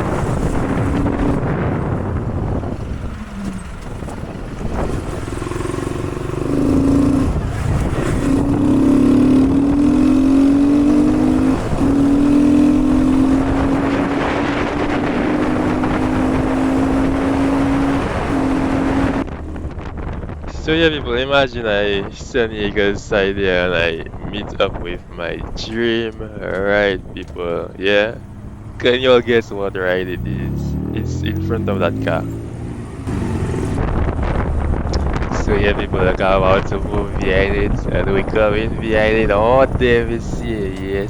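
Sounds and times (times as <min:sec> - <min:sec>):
motorcycle engine shifting gears: 0:00.0 - 0:41.0
wind buffeting microphone: 0:00.0 - 0:41.0.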